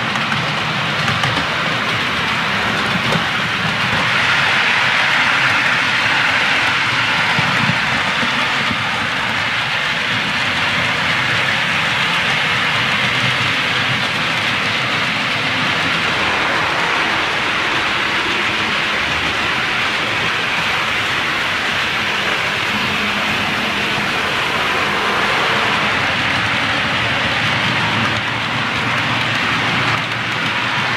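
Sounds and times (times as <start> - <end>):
model trains rolling on track: 0.0 - 30.9.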